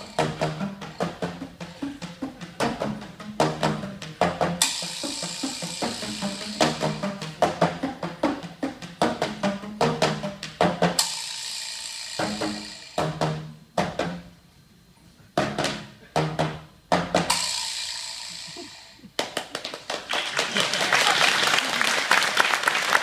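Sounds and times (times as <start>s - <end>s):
drum and percussion music: 0.0s - 14.4s, 15.4s - 20.2s.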